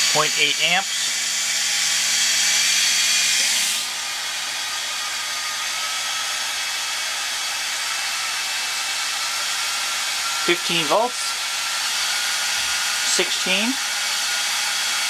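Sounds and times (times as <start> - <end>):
hair dryer fan whirring: 0.0 - 15.0.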